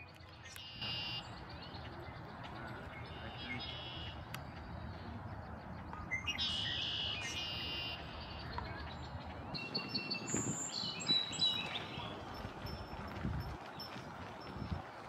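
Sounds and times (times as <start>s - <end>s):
buzzy trilled birdsong: 0.0s - 13.0s.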